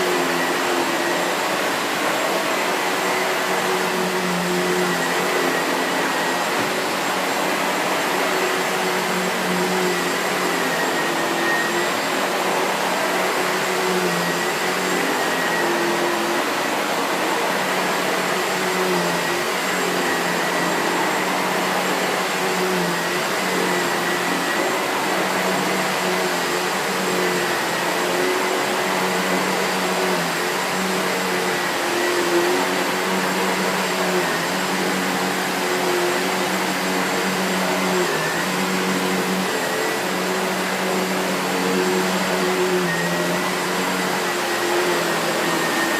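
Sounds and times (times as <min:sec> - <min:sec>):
upright vacuum cleaner running: 0:00.0 - 0:45.9.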